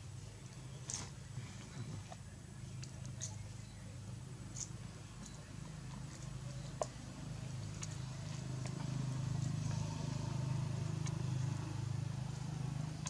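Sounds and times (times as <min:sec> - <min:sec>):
low pulsing engine hum: 0:00.0 - 0:13.0.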